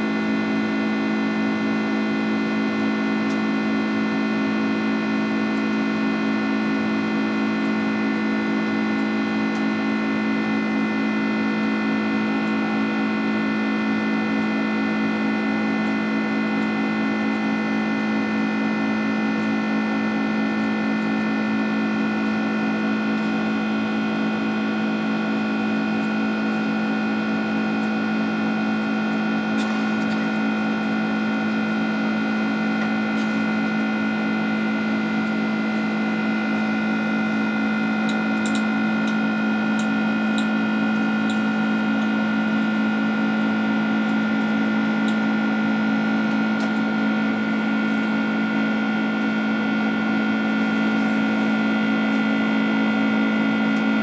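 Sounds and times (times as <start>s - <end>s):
jet engines humming and whining: 0.0s - 54.0s.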